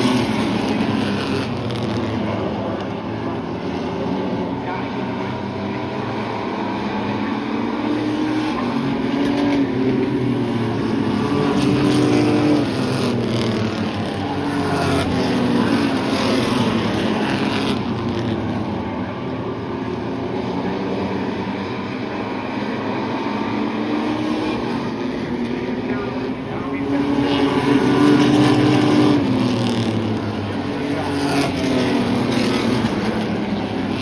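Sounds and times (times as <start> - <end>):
race truck engines passing: 0.0 - 34.0.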